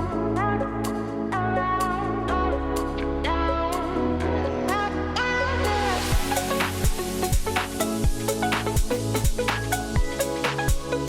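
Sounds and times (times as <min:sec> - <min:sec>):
electronic music with driving beat: 0:00.0 - 0:11.0.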